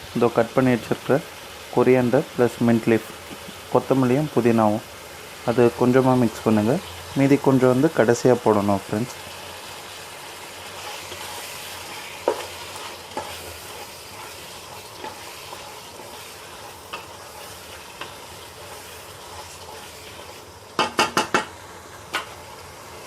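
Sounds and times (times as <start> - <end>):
food sizzling in a pot: 0.0 - 23.0.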